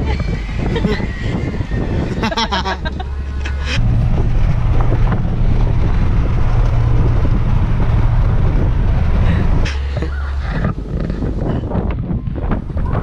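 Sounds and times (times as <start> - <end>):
car cruising drone inside cabin: 0.0 - 13.0
wind noise: 0.0 - 13.0.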